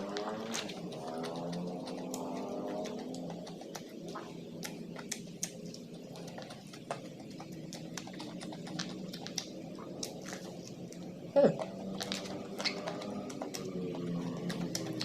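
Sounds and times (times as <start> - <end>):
chewing and mouth smacks: 0.0 - 15.0
faint steady hum: 0.0 - 15.0.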